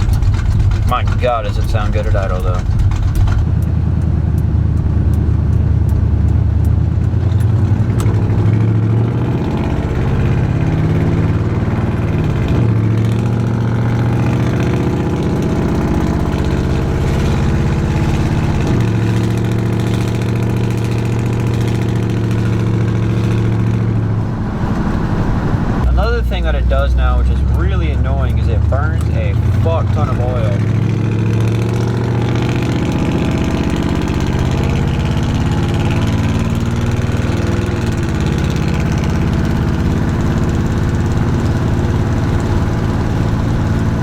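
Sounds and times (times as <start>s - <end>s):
truck engine idling: 0.0s - 8.8s, 12.1s - 44.0s.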